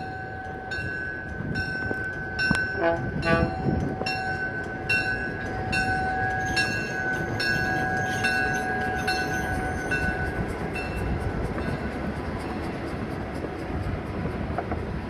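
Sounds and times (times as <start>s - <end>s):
locomotive bell ringing: 0.0s - 14.0s
locomotive engine rumble: 0.0s - 15.0s.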